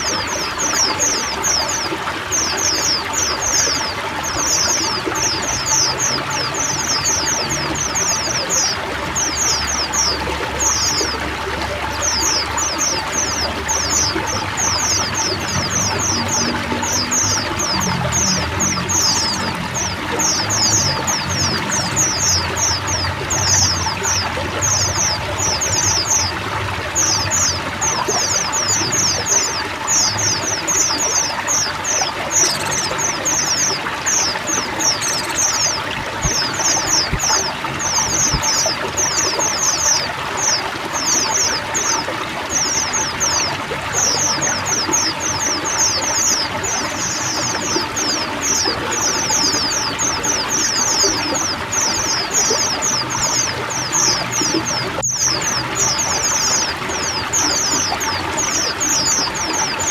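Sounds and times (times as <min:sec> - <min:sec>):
flock of birds chirping: 0:00.0 - 0:59.9
trickling water: 0:00.0 - 0:59.9.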